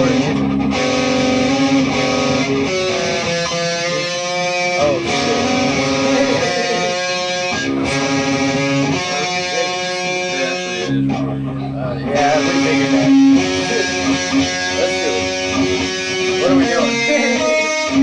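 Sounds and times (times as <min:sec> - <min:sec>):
electric guitar notes and chords: 0:00.0 - 0:18.0.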